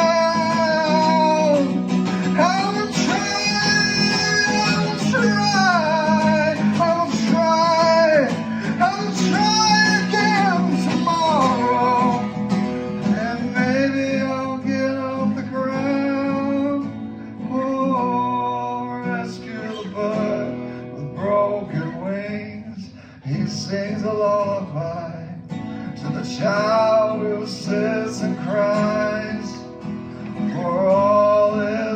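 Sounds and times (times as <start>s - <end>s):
acoustic guitar: 0.0s - 31.9s.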